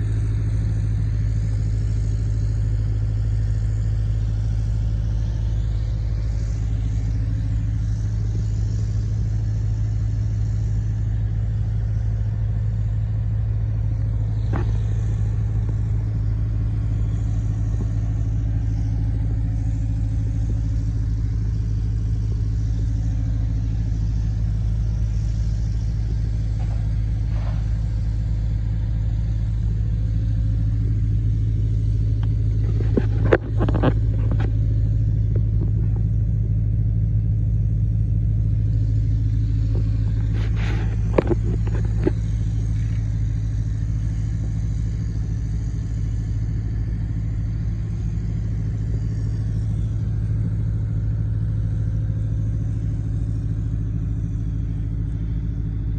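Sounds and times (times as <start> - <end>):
tractor diesel engine idling: 0.0 - 55.9.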